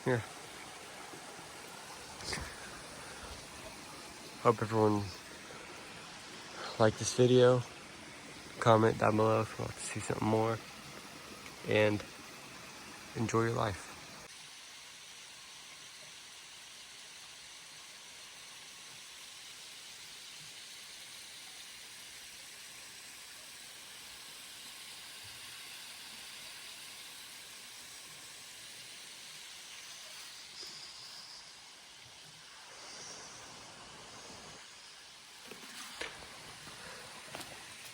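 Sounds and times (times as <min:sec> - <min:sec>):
creek running over rocks: 0:00.0 - 0:37.9.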